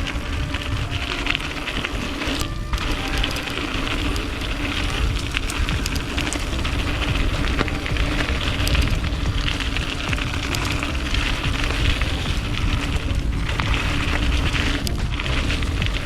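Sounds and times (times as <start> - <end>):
bike tyres crunching on dirt: 0.0 - 16.0
wind rumbling on microphone: 0.0 - 16.0.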